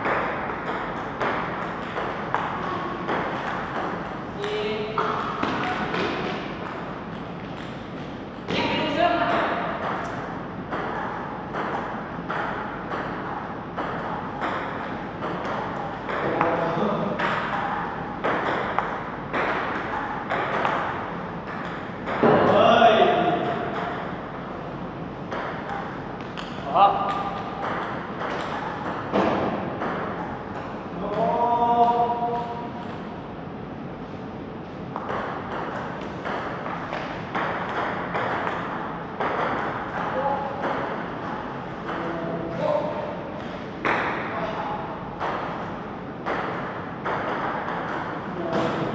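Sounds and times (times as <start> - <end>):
table tennis ball knocking: 0.0 - 24.4, 25.3 - 33.2, 34.9 - 44.3, 45.2 - 48.9
steady background hiss: 0.0 - 48.9.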